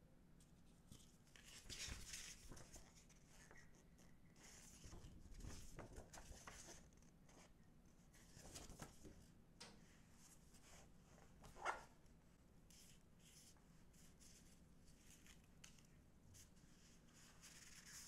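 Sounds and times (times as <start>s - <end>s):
photo prints rustling: 0.9s - 9.3s, 9.9s - 18.0s.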